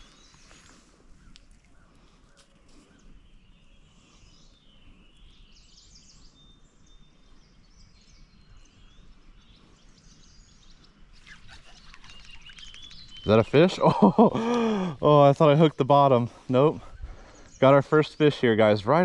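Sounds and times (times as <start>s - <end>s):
small birds singing: 0.0s - 19.0s.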